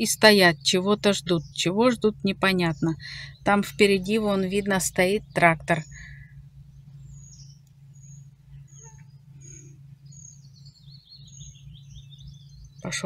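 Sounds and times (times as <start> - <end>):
songbirds chirping: 0.0 - 13.0
steady low hum: 0.0 - 13.0.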